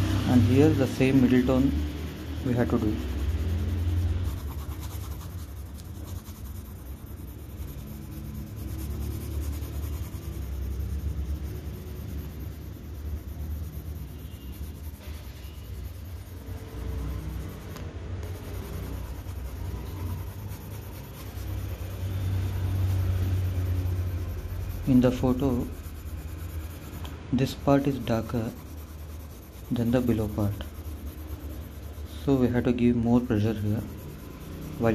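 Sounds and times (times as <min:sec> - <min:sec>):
steady low hum: 0:00.0 - 0:34.9
pencil scratching on paper: 0:00.3 - 0:34.9.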